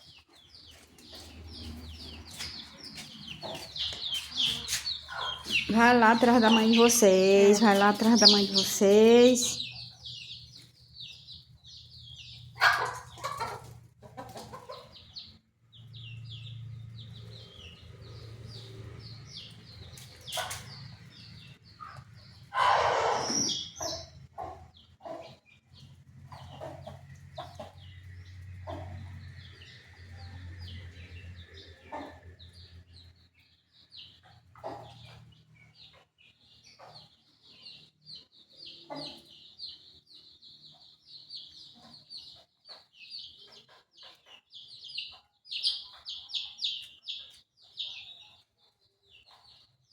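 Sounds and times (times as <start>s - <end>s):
chickens clucking: 0.0s - 10.8s, 11.4s - 15.9s, 18.8s - 33.1s, 34.0s - 37.2s, 38.7s - 39.5s, 41.6s - 48.1s
chicks peeping: 0.0s - 49.9s.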